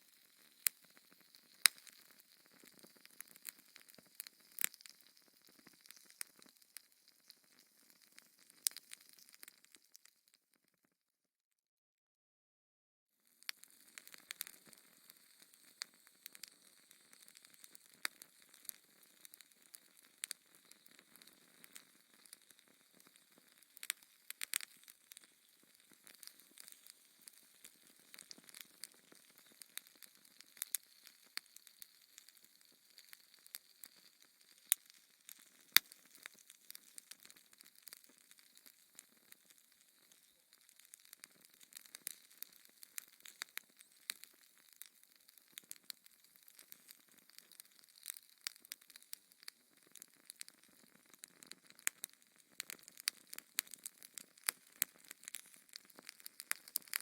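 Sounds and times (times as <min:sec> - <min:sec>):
fire crackling and popping: 0:00.0 - 0:10.5, 0:13.3 - 0:57.0.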